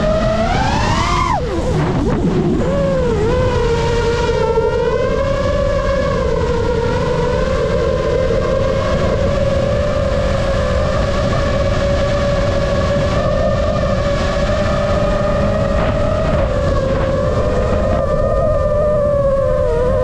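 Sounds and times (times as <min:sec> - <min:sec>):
drone motors whining: 0:00.0 - 0:20.0
rush of wind: 0:00.0 - 0:20.0.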